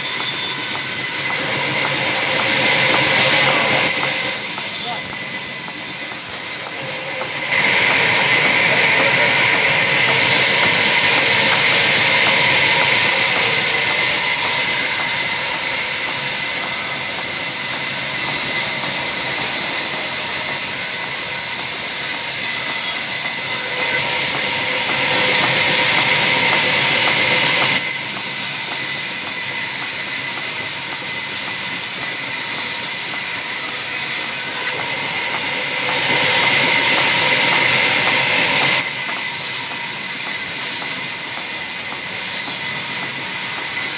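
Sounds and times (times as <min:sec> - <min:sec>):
band saw cutting log: 0:00.0 - 0:43.9.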